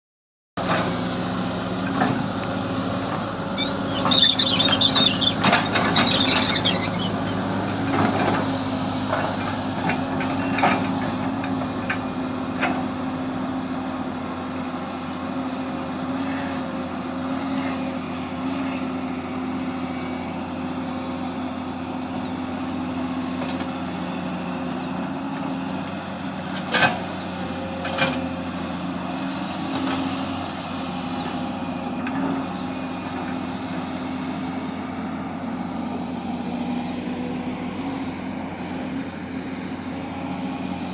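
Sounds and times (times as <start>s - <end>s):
excavator engine running: 0.6s - 40.9s.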